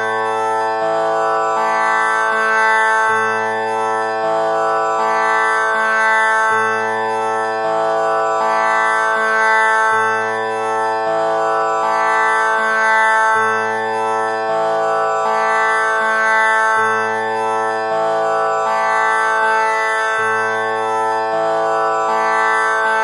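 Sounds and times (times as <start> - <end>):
tanpura drone: 0.0 - 23.0.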